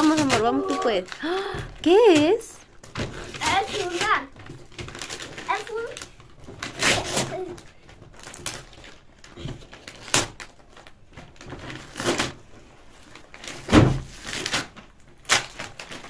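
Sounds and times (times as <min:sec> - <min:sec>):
wrapping paper tearing and crumpling: 0:00.0 - 0:16.0.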